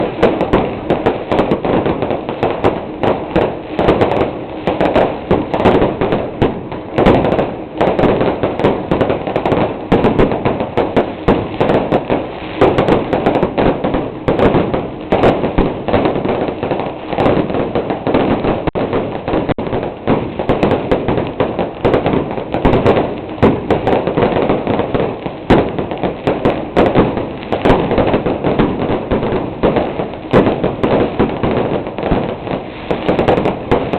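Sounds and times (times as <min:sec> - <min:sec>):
firecrackers crackling: 0:00.0 - 0:33.9.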